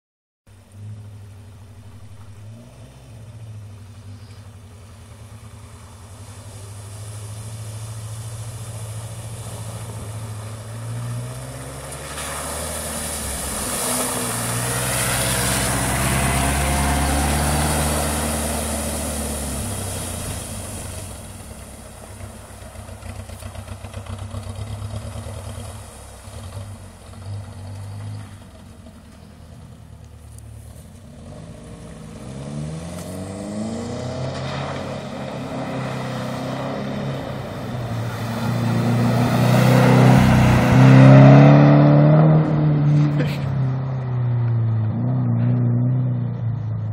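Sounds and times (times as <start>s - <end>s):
tyres splashing through mud: 0.8s - 44.8s.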